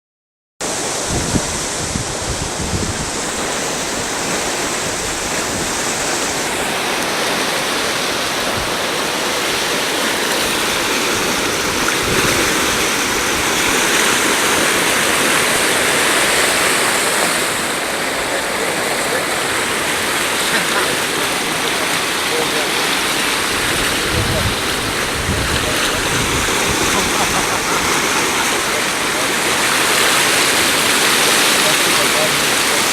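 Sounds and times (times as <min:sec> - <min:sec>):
river water rushing: 0:00.6 - 0:32.9
wind buffeting microphone: 0:00.8 - 0:07.3, 0:08.2 - 0:20.4, 0:21.3 - 0:31.3.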